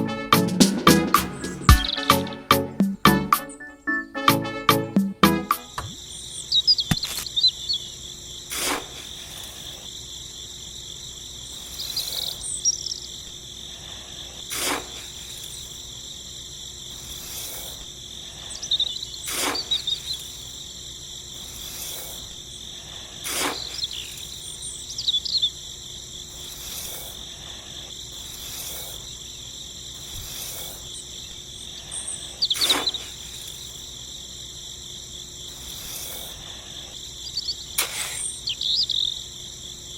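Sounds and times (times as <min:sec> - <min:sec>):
insects droning: 0:00.0 - 0:04.5, 0:05.2 - 0:39.9
insect chirps: 0:05.6 - 0:39.9.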